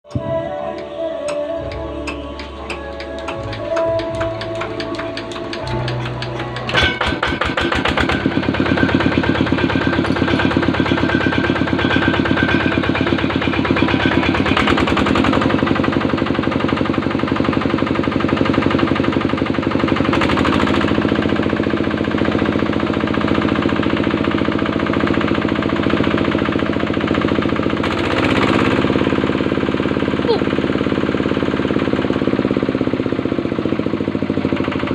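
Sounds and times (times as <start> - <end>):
diesel engine starting and running: 0.0 - 34.9.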